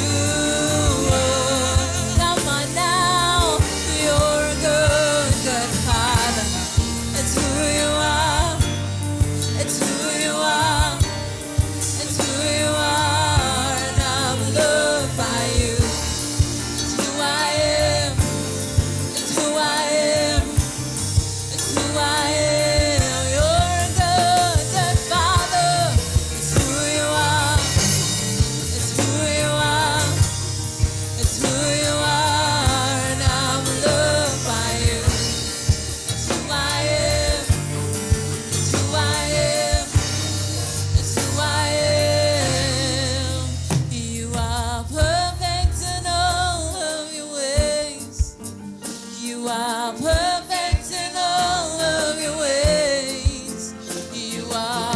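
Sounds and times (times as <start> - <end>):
band with bass and drums: 0.0 - 49.3, 50.0 - 54.9
people singing worship music: 0.0 - 54.9.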